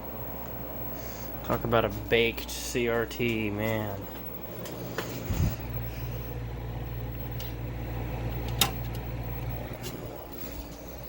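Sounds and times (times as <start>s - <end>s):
television electrical hum: 0.0s - 11.0s.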